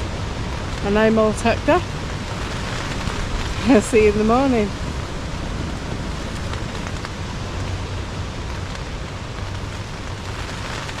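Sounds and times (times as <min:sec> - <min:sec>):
low rumble: 0:00.0 - 0:11.0
rain and wind on a tent: 0:00.0 - 0:11.0.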